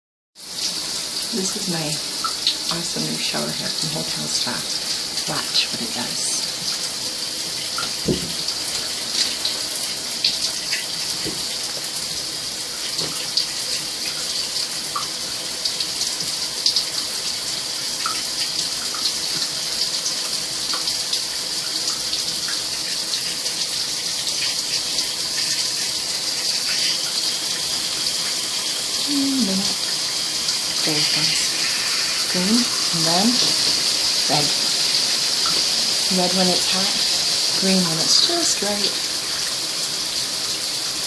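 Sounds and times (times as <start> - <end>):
shower spraying water: 0.4 - 41.0.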